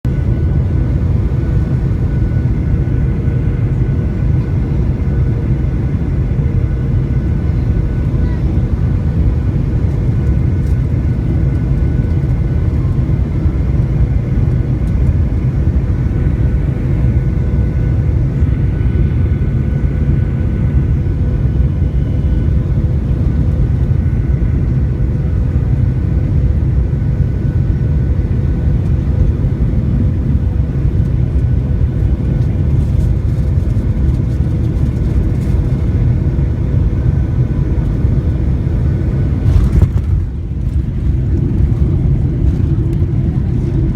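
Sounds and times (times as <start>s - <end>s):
aircraft low rumble: 0.0s - 43.9s.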